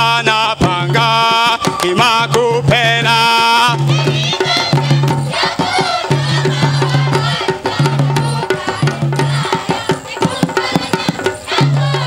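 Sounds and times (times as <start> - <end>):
drums and percussion: 0.0 - 12.0
group chanting a song: 0.0 - 12.0.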